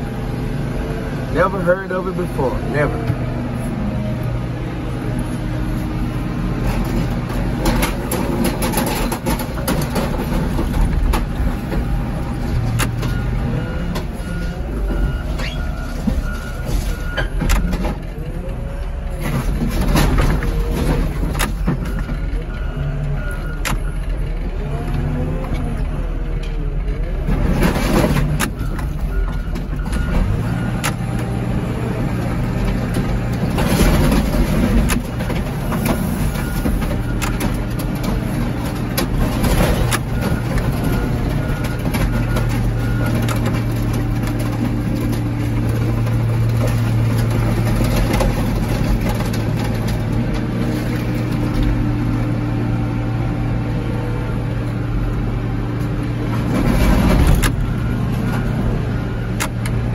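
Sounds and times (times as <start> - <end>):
car crusher engine and hydraulics: 0.0 - 59.9.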